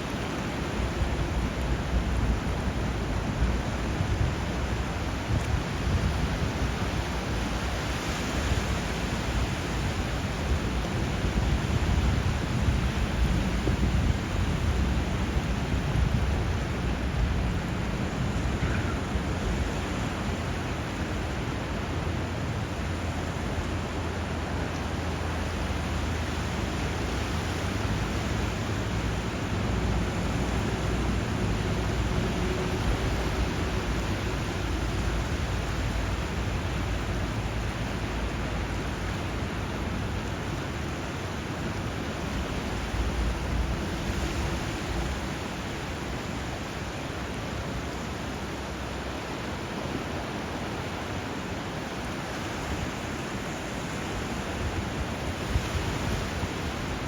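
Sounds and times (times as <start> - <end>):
surf and flowing current: 0.0 - 57.0.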